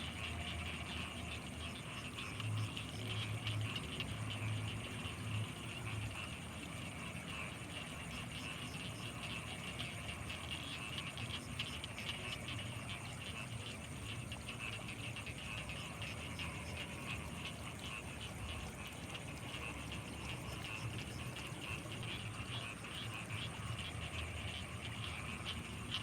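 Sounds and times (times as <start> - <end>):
frogs croaking: 0.0 - 26.0.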